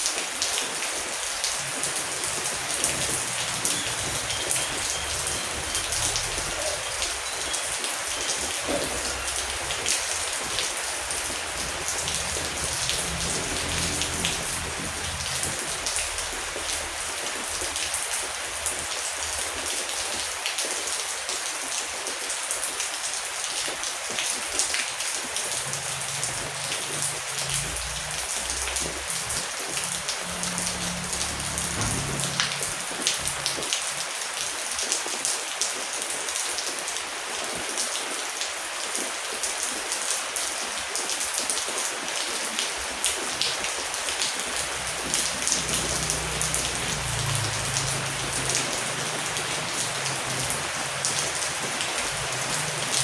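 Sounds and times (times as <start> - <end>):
heavy rain hiss: 0.0 - 53.0
raindrops tapping on a surface: 0.0 - 53.0.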